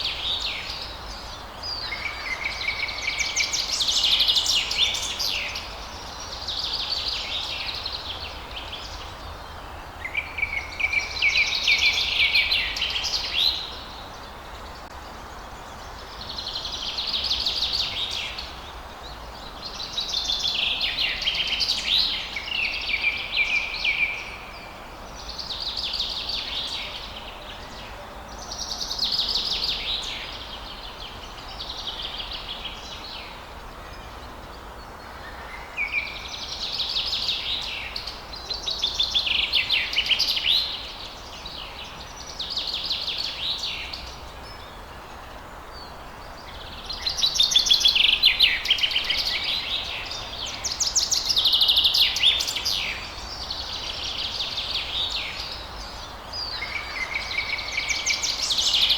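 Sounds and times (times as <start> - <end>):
low background hiss: 0.0 - 58.9
songbirds twittering: 0.0 - 58.9.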